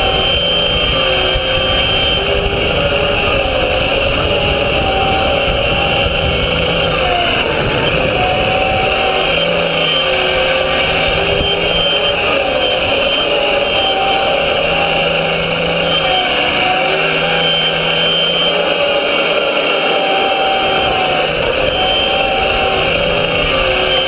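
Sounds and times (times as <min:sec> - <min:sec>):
hydraulic pump whining: 0:00.0 - 0:24.0.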